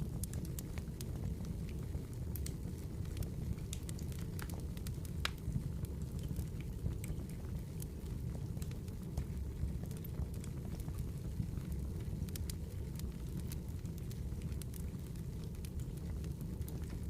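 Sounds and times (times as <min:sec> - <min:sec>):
fire crackles and pops: 0:00.0 - 0:17.0
low rumble of flames: 0:00.0 - 0:17.0.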